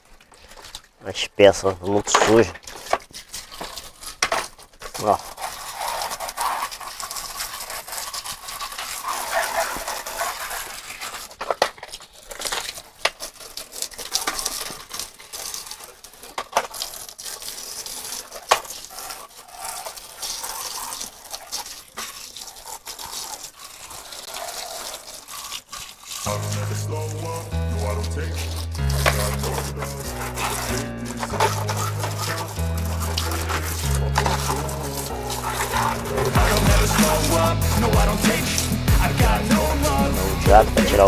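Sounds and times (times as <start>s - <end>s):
water running and splashing: 0.0s - 41.0s.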